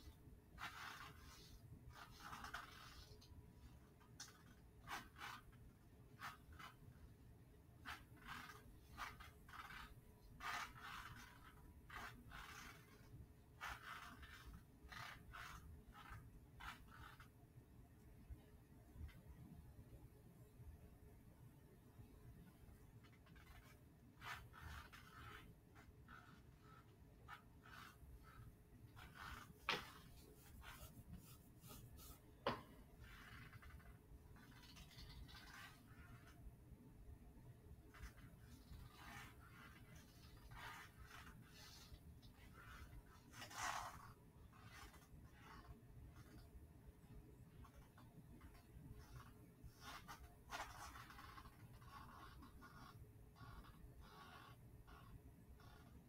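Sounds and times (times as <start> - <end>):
small ticks and scratches: 0.0 - 7.1, 7.8 - 17.4, 22.4 - 32.3, 33.0 - 36.5, 37.8 - 56.0.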